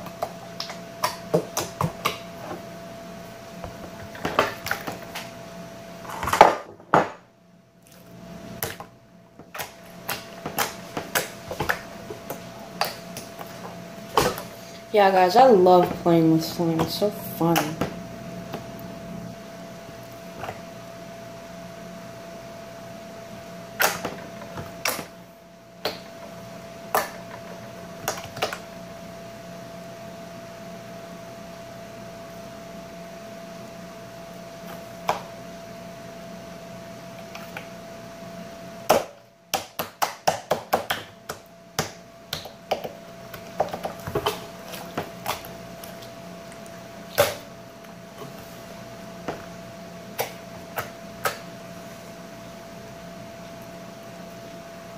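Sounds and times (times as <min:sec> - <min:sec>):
faint hum: 0:00.0 - 0:54.9.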